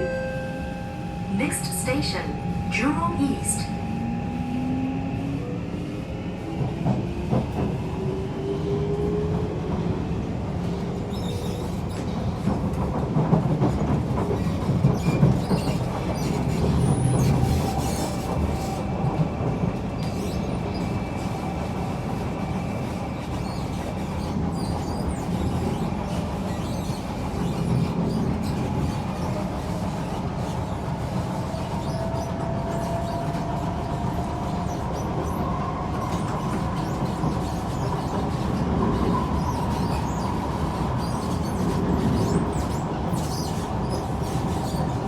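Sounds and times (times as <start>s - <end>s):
train wheels rumbling on rails: 0.5s - 45.0s.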